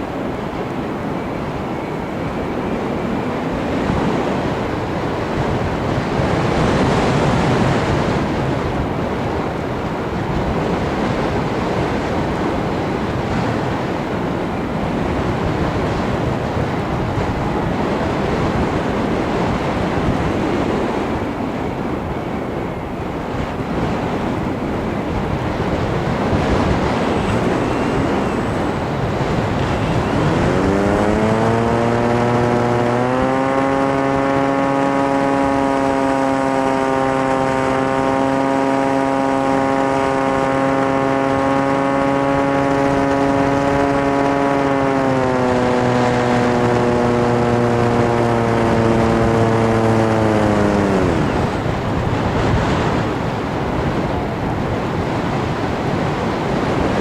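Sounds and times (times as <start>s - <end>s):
motor and propeller hum: 0.0s - 57.0s
wind rushing over microphone: 0.0s - 57.0s.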